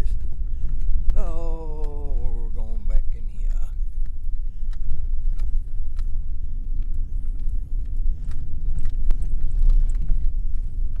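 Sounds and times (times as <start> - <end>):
vehicle rumbling on dirt road: 0.0 - 11.0.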